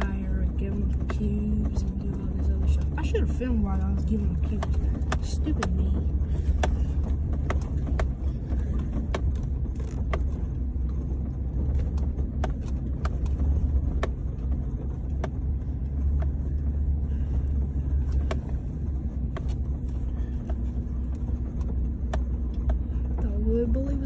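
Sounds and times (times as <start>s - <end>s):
sharp clicks and knocks: 0.0s - 23.4s
engine and road rumble: 0.0s - 24.0s.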